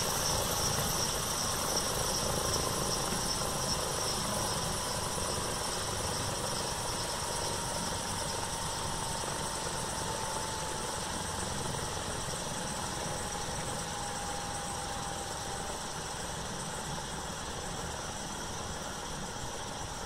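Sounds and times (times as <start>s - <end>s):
helicopter rotor and exhaust noise: 0.0s - 20.0s
helicopter turbine whine: 0.0s - 20.0s.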